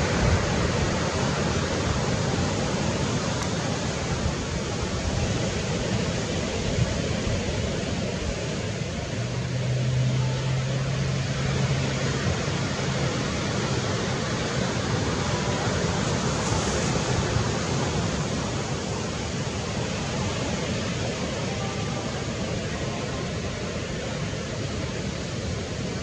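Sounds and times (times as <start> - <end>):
low steady hum: 0.0 - 26.0
steady rushing outdoor noise: 0.0 - 26.0.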